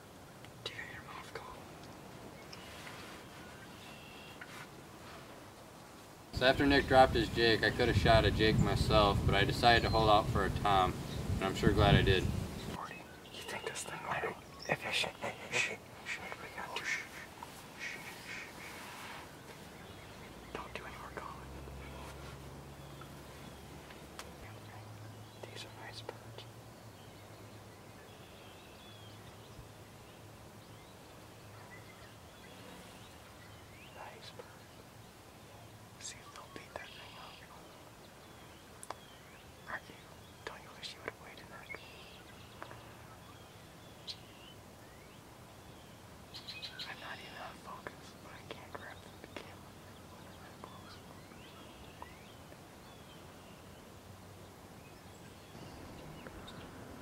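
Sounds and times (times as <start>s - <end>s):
faint bird chirps: 0.6s - 1.6s, 2.2s - 4.6s, 12.2s - 56.9s.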